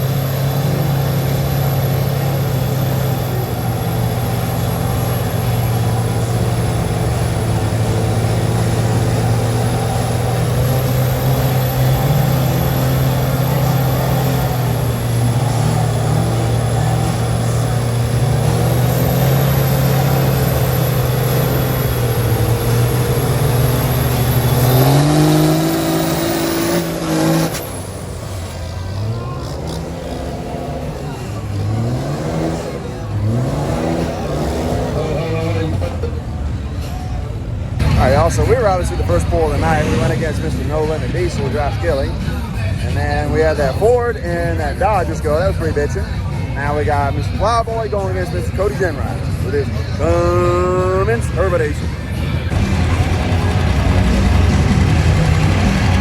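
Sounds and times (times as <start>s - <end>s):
truck engine at high revs: 0.0s - 56.0s.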